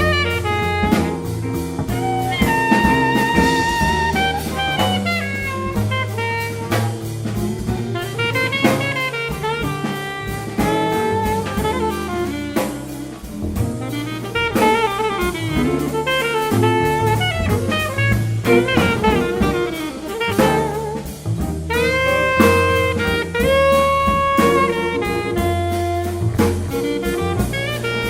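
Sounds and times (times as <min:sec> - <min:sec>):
bass line: 0:00.0 - 0:28.0
drum kit with cymbals: 0:00.0 - 0:28.0
horn or guitar melody: 0:00.0 - 0:28.0.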